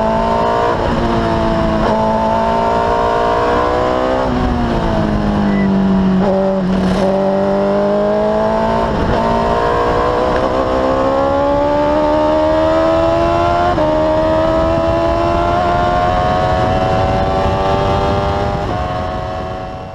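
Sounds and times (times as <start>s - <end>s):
race car engine accelerating: 0.0s - 19.9s.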